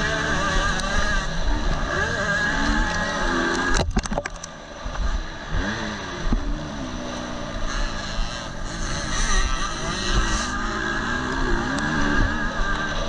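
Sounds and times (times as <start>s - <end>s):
motocross engine revving: 0.0s - 13.0s.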